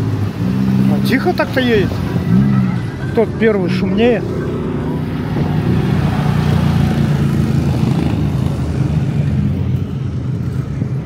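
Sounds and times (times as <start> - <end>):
motorcycle passing at low revs: 0.0 - 10.8.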